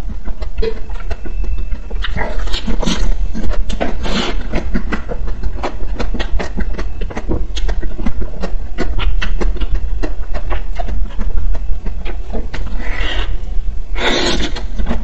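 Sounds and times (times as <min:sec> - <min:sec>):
crunching ice cream chewing: 0:00.2 - 0:13.4.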